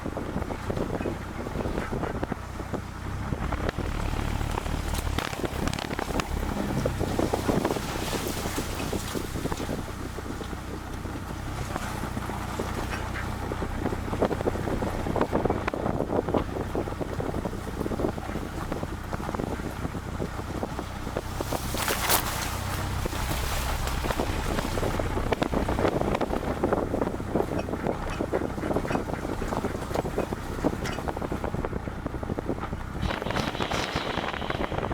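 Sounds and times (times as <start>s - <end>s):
vehicle engine droning: 0.0s - 34.9s
wind buffeting microphone: 0.0s - 34.9s.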